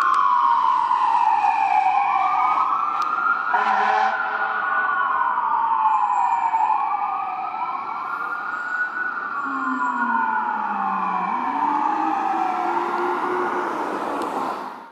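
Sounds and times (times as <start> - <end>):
deep howler siren tone: 0.0 - 14.9
fire engine siren wailing: 0.0 - 14.9.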